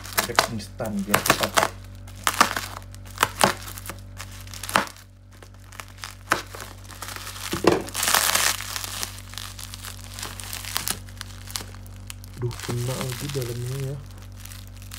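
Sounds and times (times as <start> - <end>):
plastic tearing rustle: 0.0 - 14.9
plastic wrapping crackling: 0.0 - 14.9.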